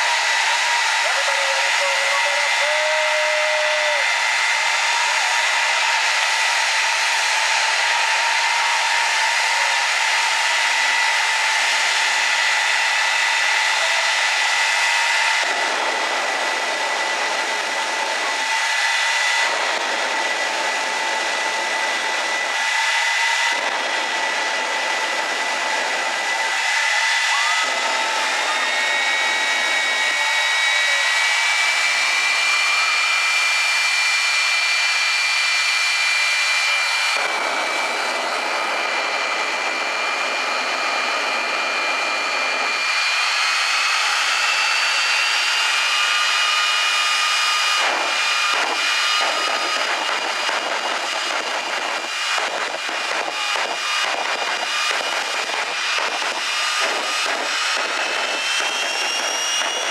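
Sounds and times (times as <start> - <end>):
high-pitched turbine whines: 0.0 - 59.9
jet engine roaring: 0.0 - 59.9.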